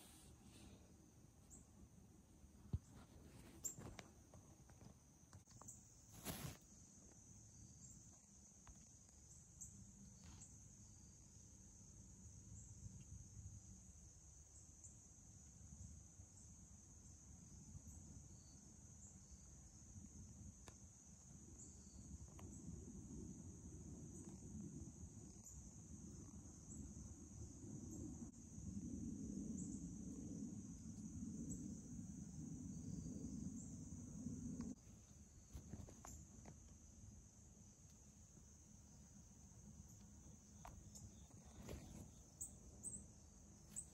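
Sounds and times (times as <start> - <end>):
insect chorus trilling: 3.4 - 43.9.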